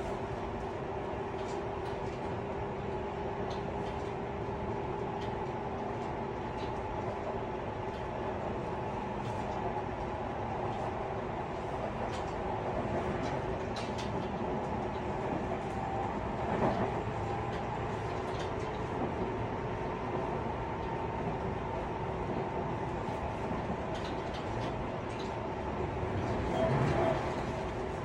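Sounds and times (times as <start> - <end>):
train wheels and motors rumbling: 0.0 - 28.0.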